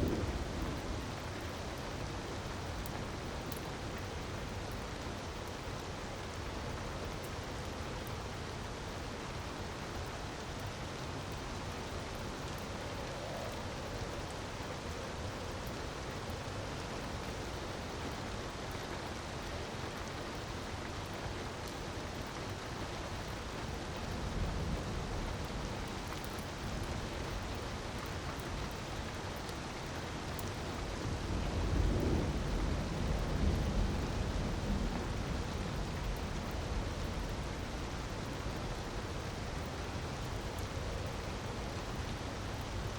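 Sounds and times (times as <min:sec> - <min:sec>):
rush of falling water: 0:00.0 - 0:42.9.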